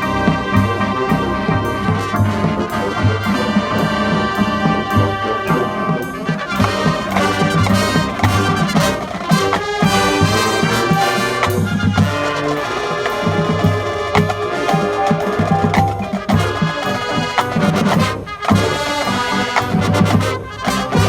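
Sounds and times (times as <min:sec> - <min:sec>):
brass playing sustained chords: 0:00.0 - 0:21.0
steady drum hits: 0:01.8 - 0:21.0.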